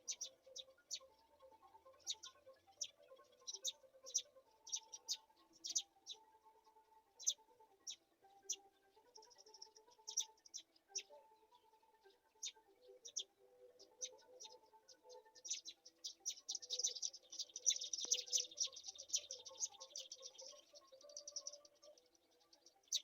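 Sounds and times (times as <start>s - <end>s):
high-pitched bird chirps: 0.0s - 23.0s.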